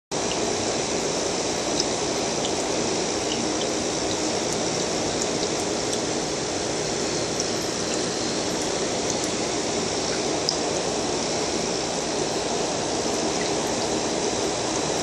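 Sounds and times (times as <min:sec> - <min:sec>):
water rushing in aquarium: 0:00.1 - 0:15.0.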